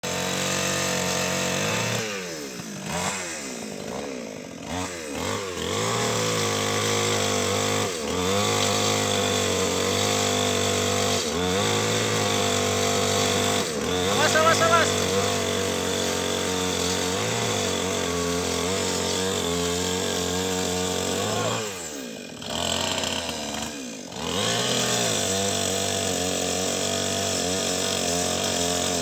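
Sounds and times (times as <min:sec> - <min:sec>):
chainsaw engine running: 0:00.0 - 0:29.0.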